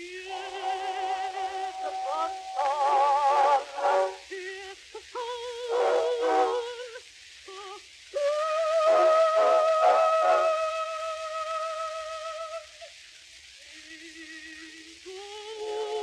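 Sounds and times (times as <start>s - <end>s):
woman singing with vibrato: 0.0s - 12.9s, 13.8s - 16.0s
record hiss: 0.0s - 16.0s.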